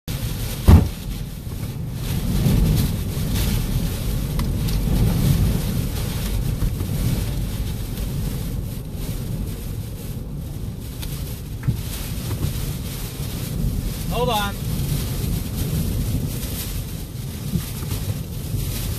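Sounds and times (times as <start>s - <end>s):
wind and rain buffeting vehicle: 0.0s - 18.9s.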